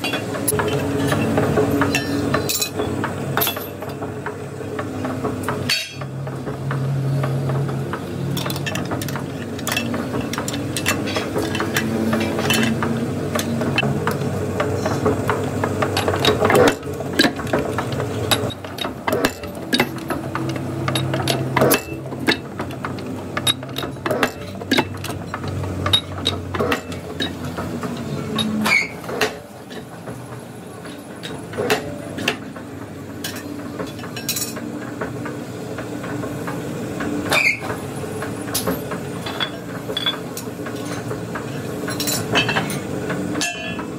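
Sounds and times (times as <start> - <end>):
heavy machine humming: 0.0 - 43.9.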